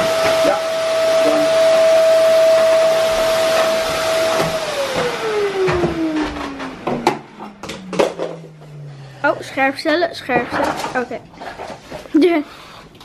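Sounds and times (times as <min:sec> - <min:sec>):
vacuum cleaner motor winding down: 0:00.0 - 0:10.8.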